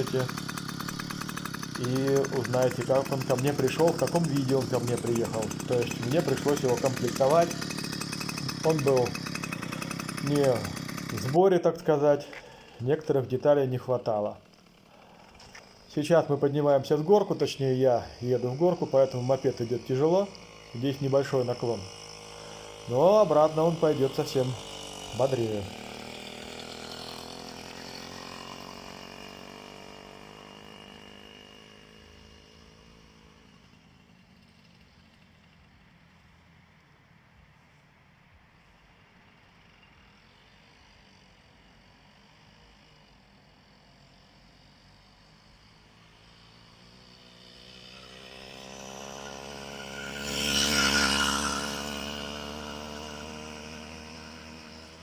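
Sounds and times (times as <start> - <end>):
moped engine running: 0.0 - 35.6, 43.7 - 55.0.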